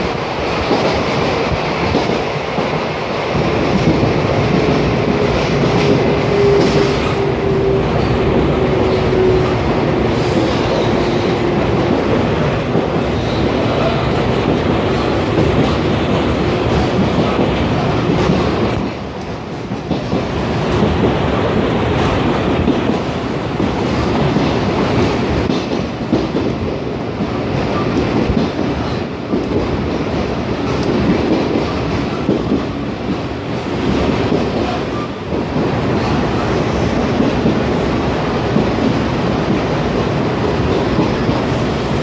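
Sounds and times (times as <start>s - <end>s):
clickety-clack over rail joints: 0.0s - 42.0s
train wheels rumbling on rail: 0.0s - 42.0s.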